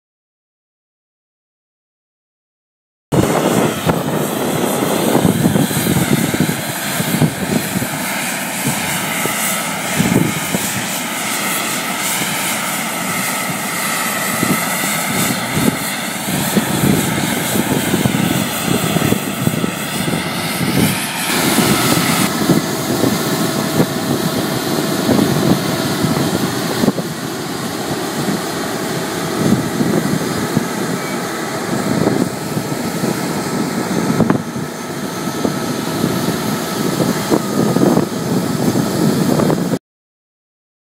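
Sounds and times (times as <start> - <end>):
aircraft turbine whine: 3.1 - 39.8
continuous rumble: 3.2 - 39.8.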